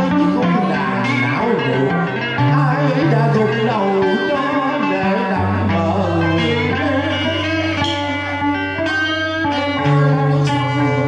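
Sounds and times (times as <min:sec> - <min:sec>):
electric guitar plucking: 0:00.0 - 0:11.0
low bass notes: 0:00.0 - 0:11.0
lute plucking melody: 0:00.0 - 0:11.0
man singing into microphone: 0:00.0 - 0:11.0.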